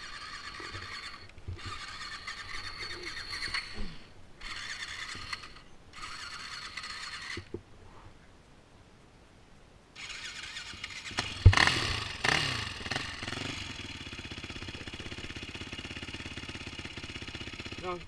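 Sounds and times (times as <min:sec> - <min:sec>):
dirt bike engine revving: 0:00.0 - 0:07.5, 0:10.0 - 0:18.0.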